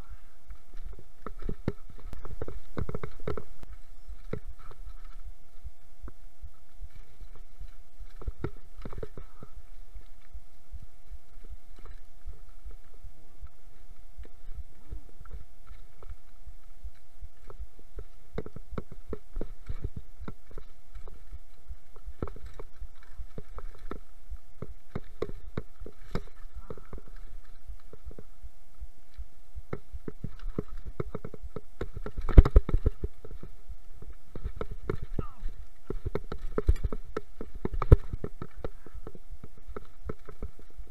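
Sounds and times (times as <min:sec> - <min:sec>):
mountain bike rattling on rocky trail: 0:00.0 - 0:28.4, 0:29.1 - 0:40.9.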